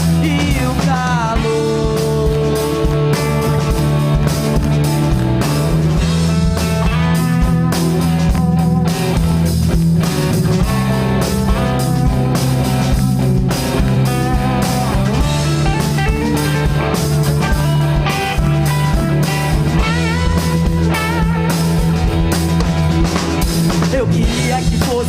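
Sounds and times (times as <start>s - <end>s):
bass guitar notes: 0.0s - 25.0s
drum beats: 0.0s - 25.0s
electric guitars: 0.0s - 25.0s
lead guitar with vibrato: 0.0s - 25.0s.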